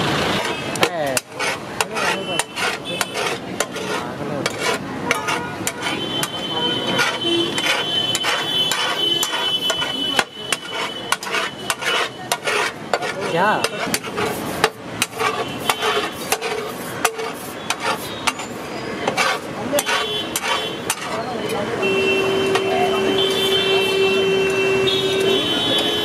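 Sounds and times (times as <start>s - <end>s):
metal spatulas scraping on griddle: 0.2s - 21.6s.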